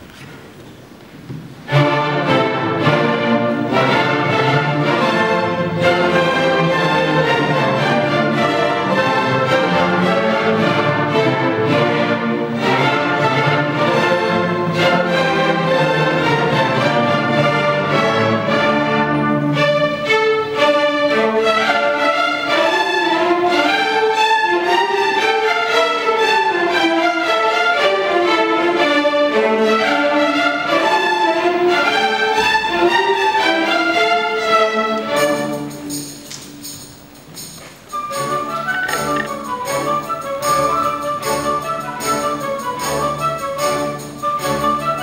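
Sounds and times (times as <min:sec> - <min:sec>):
violins: 0:01.2 - 0:45.0
orchestra playing: 0:01.6 - 0:45.0.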